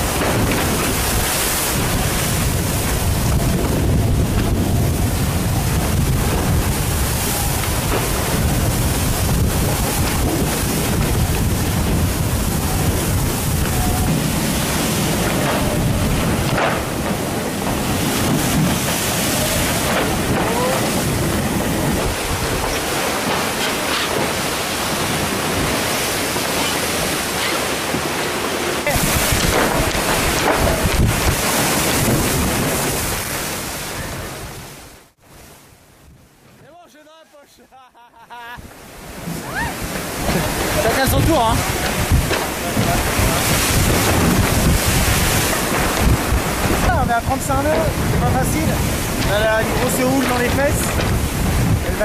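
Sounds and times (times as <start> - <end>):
water rushing and spray: 0.0 - 36.1, 38.6 - 52.0
wind buffeting microphone: 0.0 - 36.4, 38.6 - 52.0.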